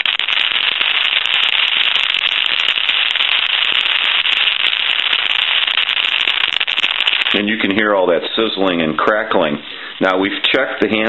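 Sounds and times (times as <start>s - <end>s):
crackling static on phone line: 0.0s - 11.0s.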